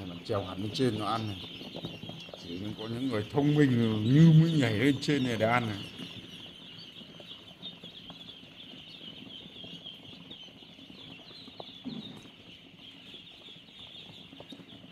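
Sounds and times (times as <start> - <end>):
ducklings peeping: 0.0 - 14.9.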